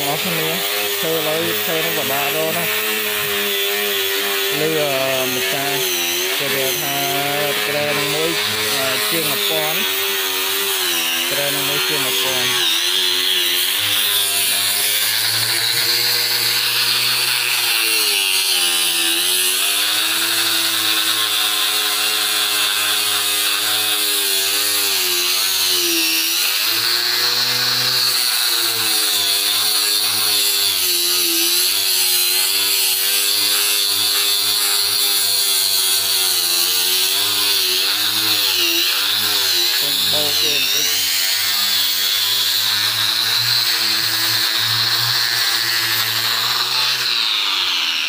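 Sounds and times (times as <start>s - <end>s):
angle grinder sanding wood: 0.0s - 48.0s.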